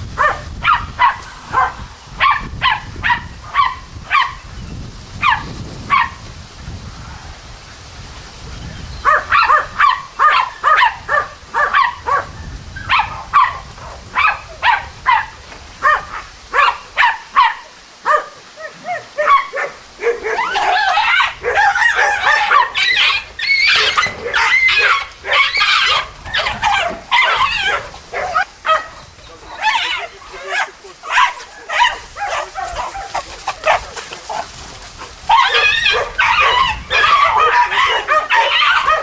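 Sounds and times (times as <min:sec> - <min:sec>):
dog barking: 0:00.2 - 0:04.4, 0:05.2 - 0:06.2, 0:09.0 - 0:29.0, 0:29.6 - 0:34.4, 0:35.3 - 0:39.0.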